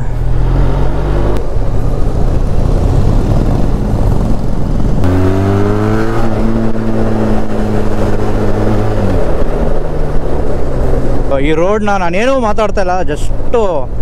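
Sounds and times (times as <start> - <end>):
motorcycle engine accelerating: 0.0 - 11.7
wind rumble: 0.0 - 14.0.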